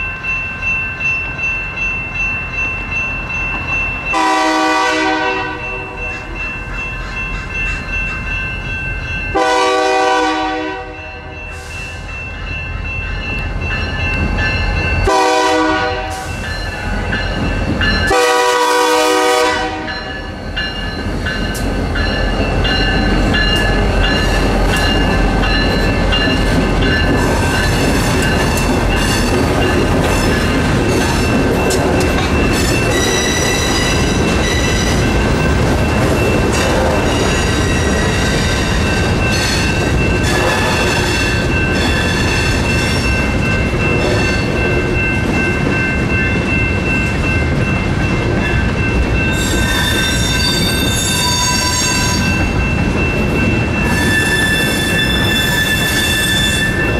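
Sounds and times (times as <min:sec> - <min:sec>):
crossing bell ringing: 0:00.0 - 0:56.9
diesel locomotives rumbling: 0:00.0 - 0:56.9.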